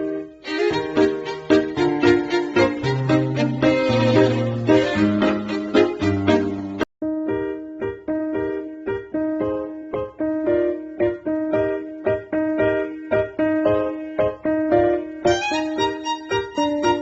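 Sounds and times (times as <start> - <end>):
piano repeating pattern: 0.0 - 17.0
higher melody line: 0.1 - 17.0.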